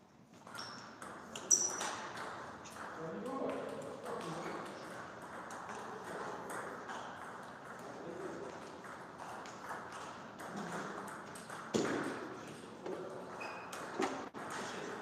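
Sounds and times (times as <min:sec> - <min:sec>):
table tennis ball rally: 0:00.4 - 0:15.0.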